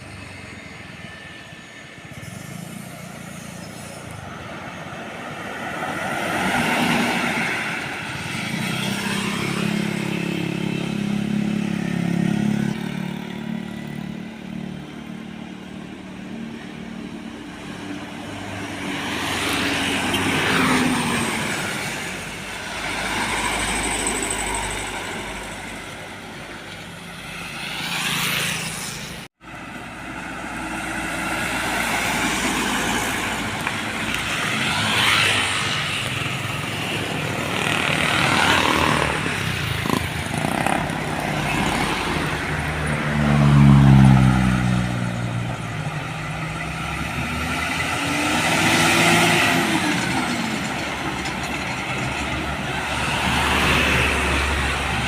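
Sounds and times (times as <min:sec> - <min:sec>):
vehicles passing by: 0:00.0 - 0:55.0.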